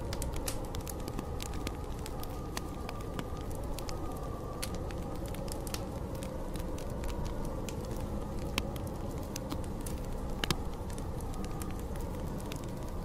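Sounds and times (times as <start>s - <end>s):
storm wind: 0.0s - 13.0s
wood fire crackling and popping: 0.0s - 13.0s.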